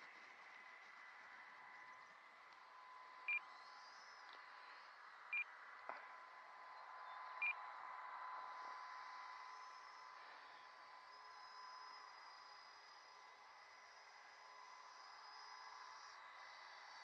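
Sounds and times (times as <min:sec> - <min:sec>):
faint steady whine and hiss: 0:00.0 - 0:17.0.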